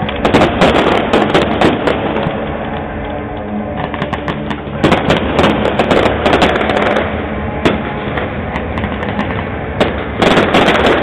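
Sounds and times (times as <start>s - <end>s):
fireworks bangs: 0.0s - 3.0s, 3.7s - 11.0s
fireworks crackling: 0.0s - 11.0s.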